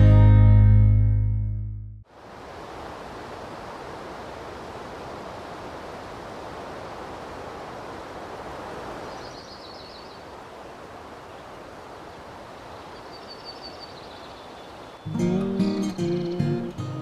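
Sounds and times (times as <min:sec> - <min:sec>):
outdoor rustle and hiss: 0:02.1 - 0:16.1.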